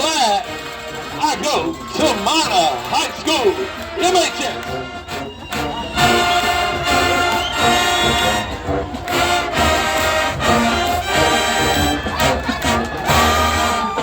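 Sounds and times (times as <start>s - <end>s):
marching band playing: 0.0s - 14.0s.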